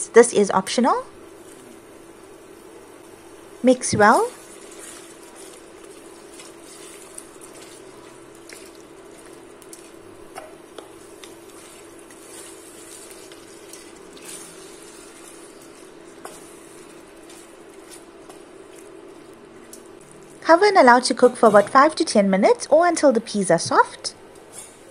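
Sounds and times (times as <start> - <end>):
steady low hum: 0.0 - 24.9
wooden spoon stirring in pot: 1.3 - 21.9.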